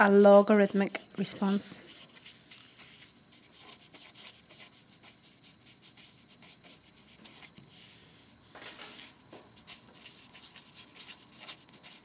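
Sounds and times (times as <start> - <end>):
pen scratching on paper: 1.2 - 8.0, 8.9 - 12.0.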